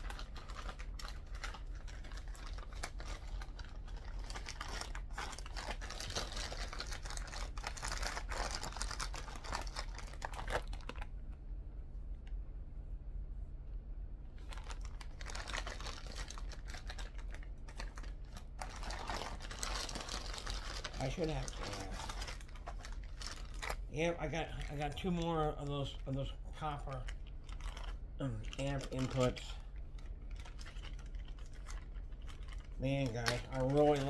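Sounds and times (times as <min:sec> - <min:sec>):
packaging rustling and crinkling: 0:00.0 - 0:11.1, 0:14.4 - 0:26.0, 0:26.8 - 0:34.0
steady low hum: 0:00.0 - 0:34.0.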